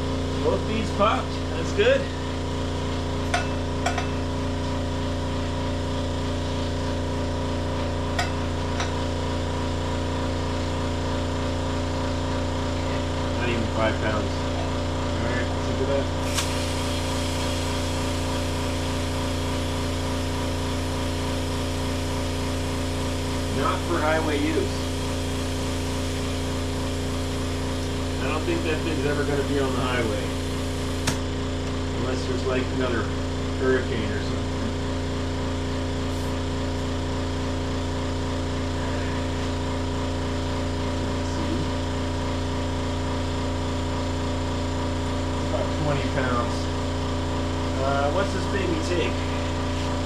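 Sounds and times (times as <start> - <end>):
air compressor humming: 0.0 - 50.0.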